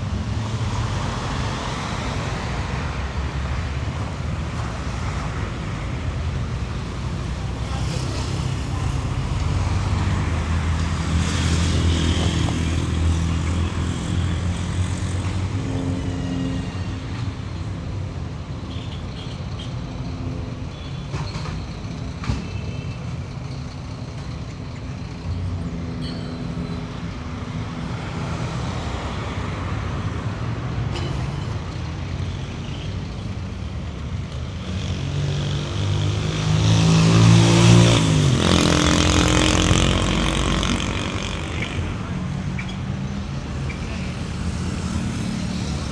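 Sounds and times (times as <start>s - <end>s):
vehicle engines running: 0.0s - 45.9s.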